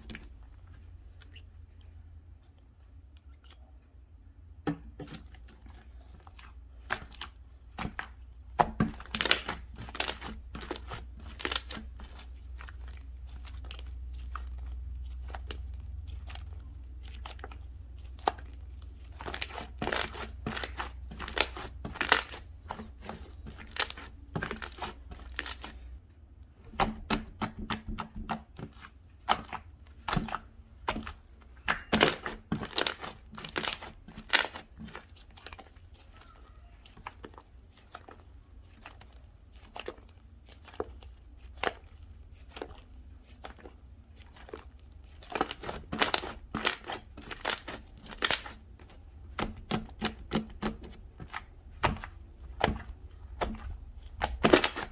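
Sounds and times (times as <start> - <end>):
slime squished by hand: 4.7 - 26.0, 26.6 - 54.9.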